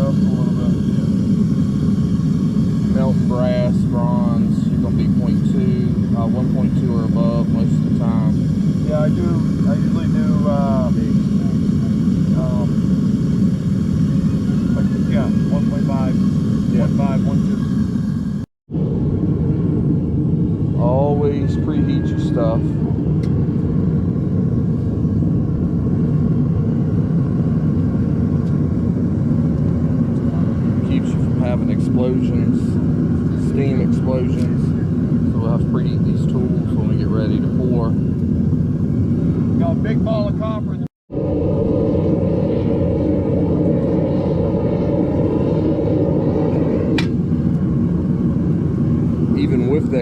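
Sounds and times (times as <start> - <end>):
gas burner roaring: 0.0 - 50.0.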